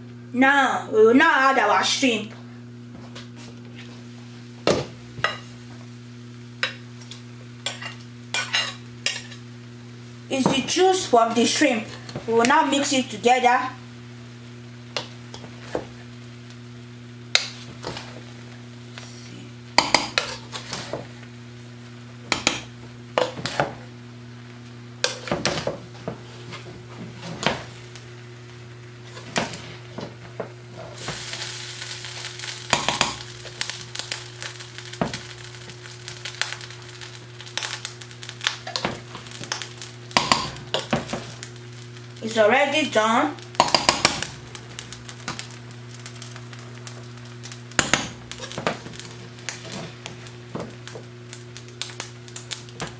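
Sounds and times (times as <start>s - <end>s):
pot sizzling: 0.0s - 52.9s.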